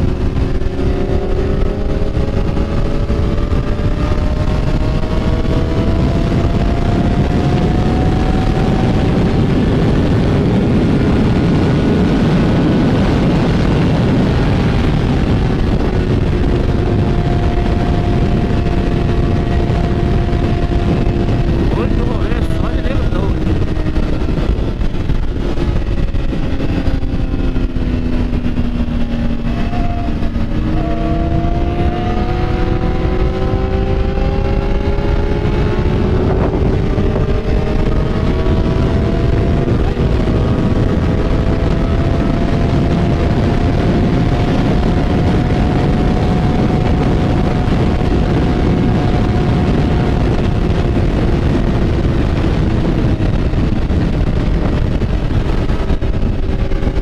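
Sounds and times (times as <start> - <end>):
constant rushing noise: 0.0 - 57.0
motorcycle engine running: 0.0 - 57.0.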